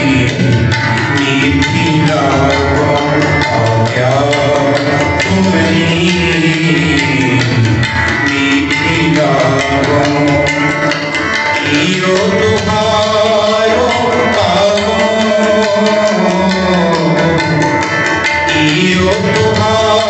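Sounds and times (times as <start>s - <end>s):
person singing: 0.0s - 0.6s, 1.2s - 7.6s, 8.3s - 17.7s
harmonium chords and melody: 0.0s - 20.0s
tabla rhythm: 0.0s - 20.0s.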